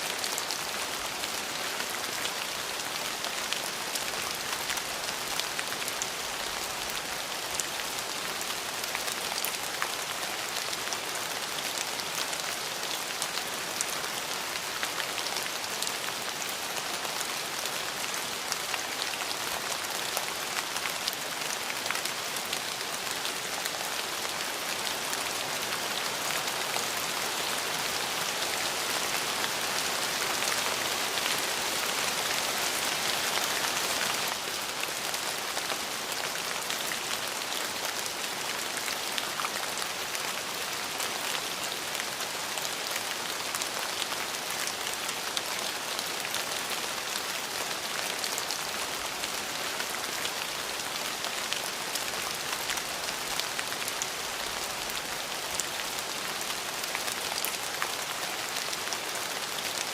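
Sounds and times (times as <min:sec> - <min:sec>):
rain drops hitting a surface: 0:00.0 - 0:59.9.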